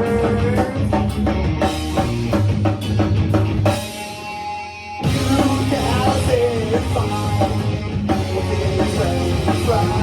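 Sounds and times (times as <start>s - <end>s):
bass: 0.0s - 10.0s
drums: 0.0s - 10.0s
electric guitar: 0.0s - 10.0s.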